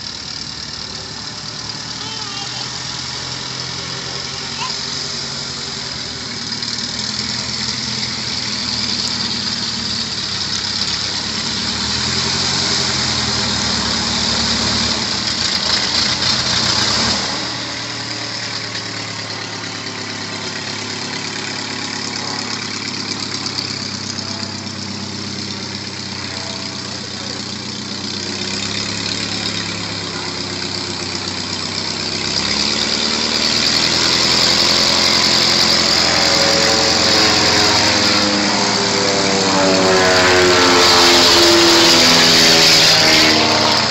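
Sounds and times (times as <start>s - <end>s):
biplane piston engines: 0.0s - 43.9s.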